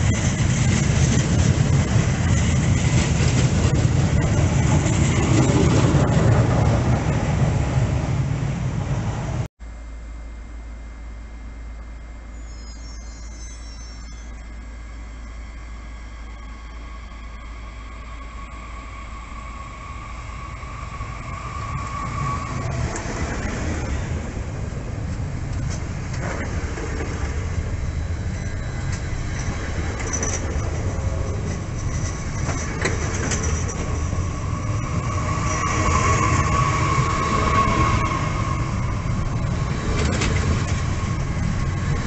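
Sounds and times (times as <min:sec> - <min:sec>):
train rumbling past: 0:00.0 - 0:09.5, 0:15.4 - 0:42.0
steady whine: 0:00.0 - 0:42.0.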